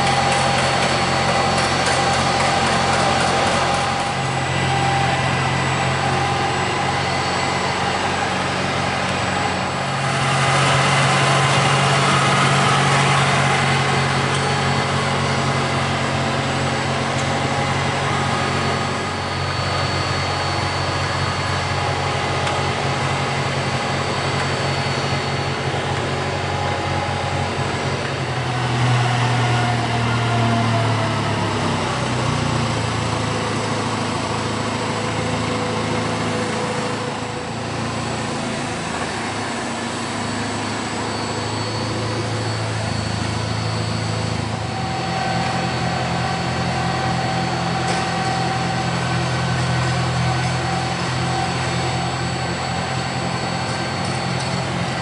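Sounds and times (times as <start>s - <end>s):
forklift engine idling: 0.0s - 55.0s.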